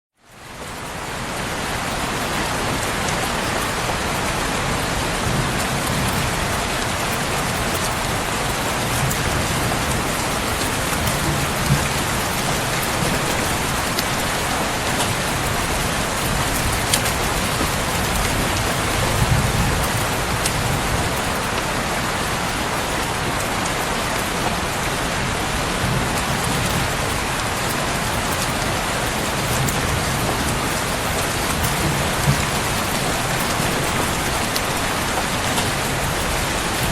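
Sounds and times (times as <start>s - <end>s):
heavy rain falling: 0.2s - 36.9s.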